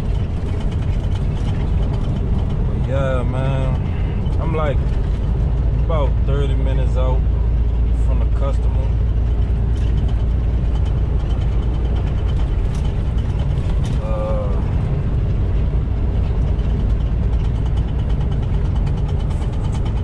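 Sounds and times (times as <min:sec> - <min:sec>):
diesel engine drone: 0:00.0 - 0:20.0
road noise: 0:00.0 - 0:20.0.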